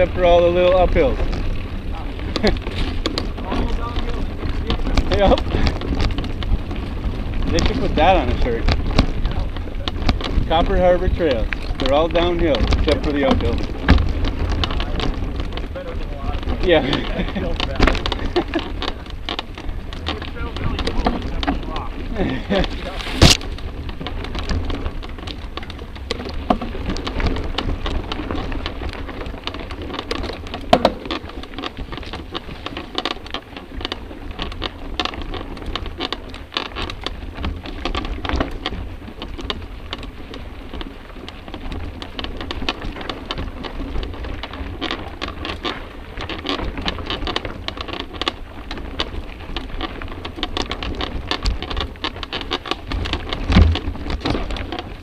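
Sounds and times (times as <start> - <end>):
bike rattling on bumpy trail: 0.0 - 55.0
low wind rumble: 0.0 - 55.0
tyres on dirt: 0.0 - 55.0.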